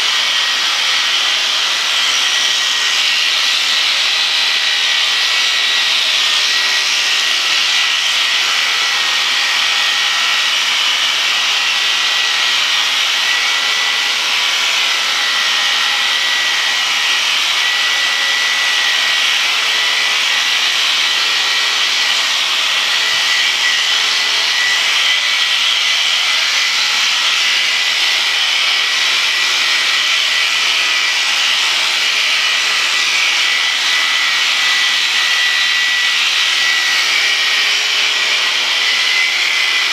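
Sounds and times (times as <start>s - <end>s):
electric sheep shears buzzing: 0.0s - 39.9s.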